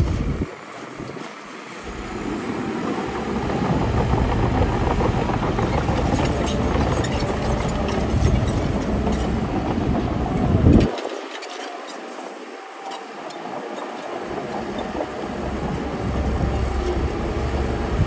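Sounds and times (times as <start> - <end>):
diesel engine under load: 0.0 - 11.0, 14.1 - 18.0.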